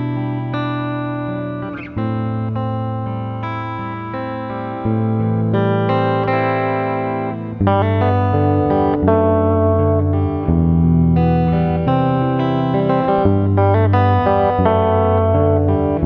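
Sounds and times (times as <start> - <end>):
layered acoustic guitar music: 0.0 - 16.0.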